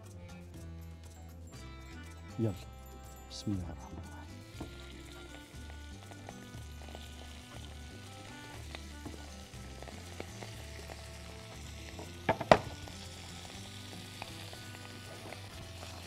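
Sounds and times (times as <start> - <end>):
sausages sizzling in a wok: 0.0 - 16.0
soft background music: 0.0 - 16.0.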